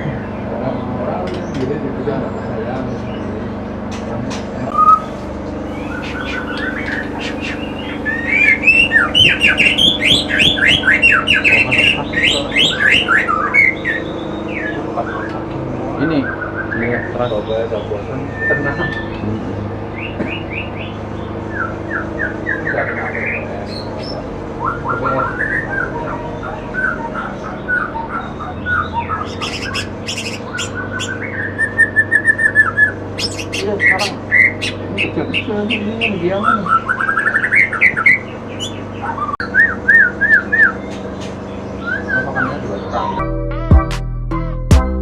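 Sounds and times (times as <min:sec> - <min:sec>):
low hum: 0:00.0 - 0:36.1
songbird singing sharp notes: 0:00.0 - 0:43.2.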